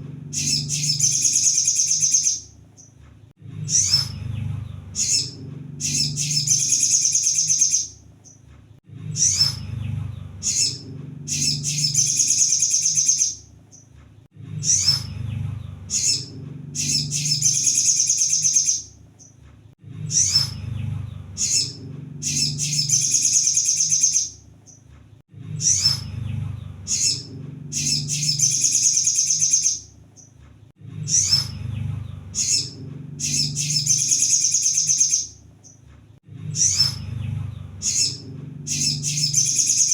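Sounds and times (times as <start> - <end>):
sunbird chirps and trill: 0.3 - 3.0, 3.6 - 8.4, 9.1 - 13.9, 14.6 - 19.4, 20.1 - 24.8, 25.6 - 30.4, 31.0 - 35.8, 36.5 - 39.9.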